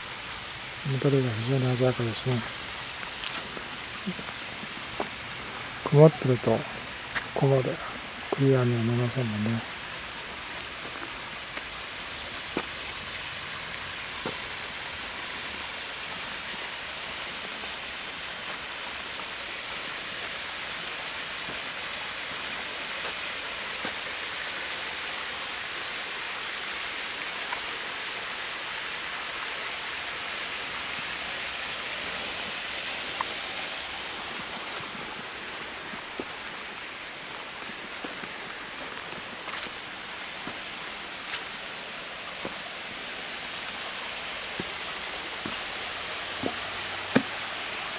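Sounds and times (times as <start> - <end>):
forest stream babbling: 0.0 - 47.9.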